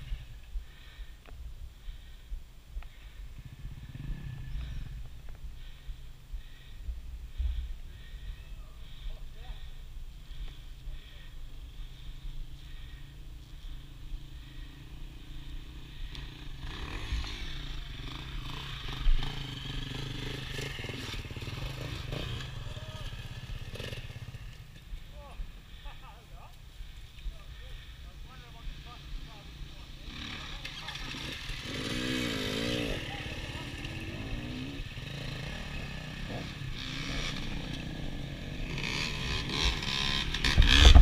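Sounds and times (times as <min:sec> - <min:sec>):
dirt bike engine idling: 0:00.0 - 0:41.0.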